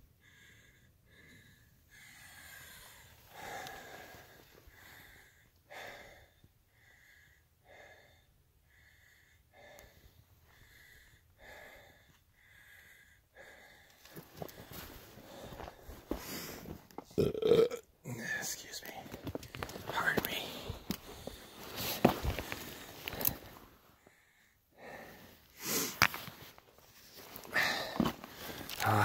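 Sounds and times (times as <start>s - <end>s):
person breathing hard: 0.0s - 16.9s, 19.8s - 29.0s.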